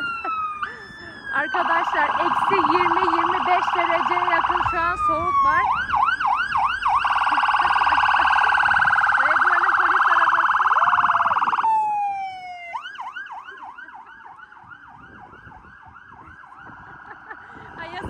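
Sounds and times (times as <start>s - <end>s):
police siren warble: 0.0s - 18.0s
siren yelp: 0.0s - 18.0s.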